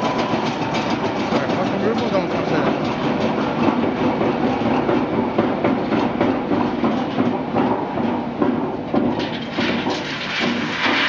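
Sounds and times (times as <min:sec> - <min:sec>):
centrifuge running with rattle: 0:00.0 - 0:11.0.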